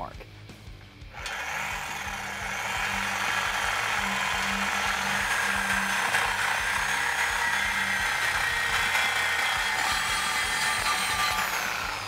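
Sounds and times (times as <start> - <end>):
reciprocating saw cutting metal pipe: 1.2 - 12.0.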